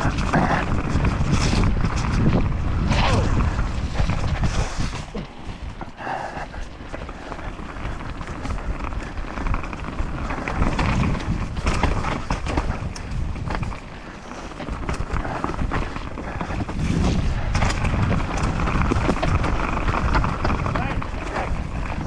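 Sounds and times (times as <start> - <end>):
bike rattling and knocking: 0.0 - 22.0
tyre noise on dirt: 0.0 - 22.0
wind buffeting microphone: 0.0 - 22.0.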